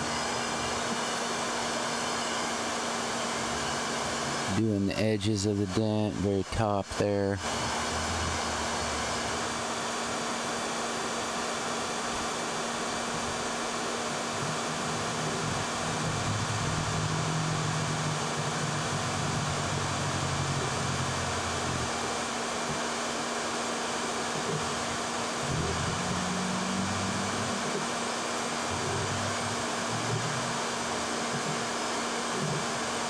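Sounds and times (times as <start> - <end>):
hair dryer running: 0.0 - 4.6, 7.0 - 33.0.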